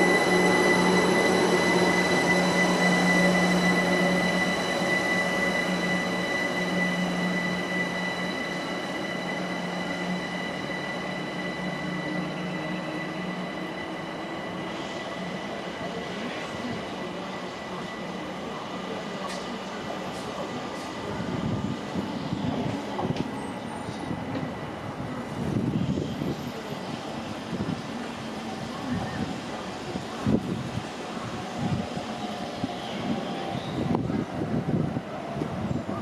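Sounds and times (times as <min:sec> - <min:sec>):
train high whine: 0:00.0 - 0:36.0
train low hum: 0:00.0 - 0:36.0.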